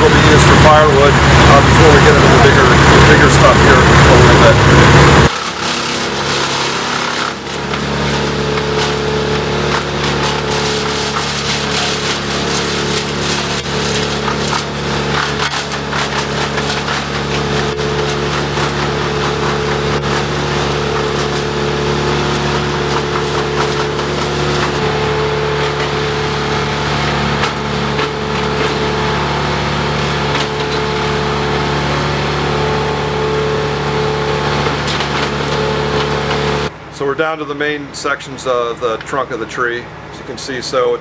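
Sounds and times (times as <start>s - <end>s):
rough crackling noise: 0.0s - 36.7s
large engine running: 0.0s - 41.0s.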